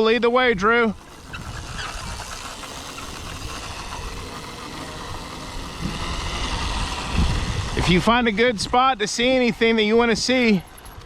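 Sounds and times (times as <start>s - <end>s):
tyres rolling over dirt: 0.0s - 11.0s
wind on microphone: 0.5s - 11.0s.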